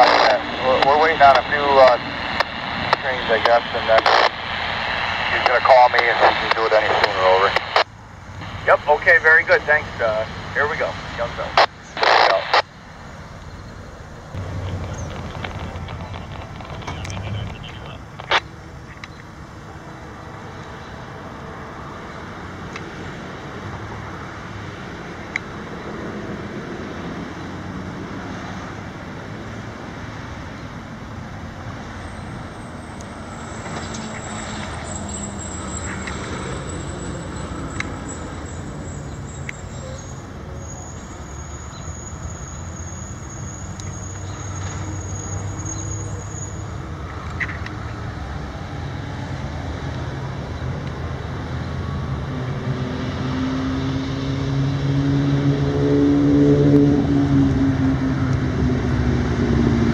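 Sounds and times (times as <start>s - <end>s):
diesel locomotives rumbling: 0.0s - 53.4s.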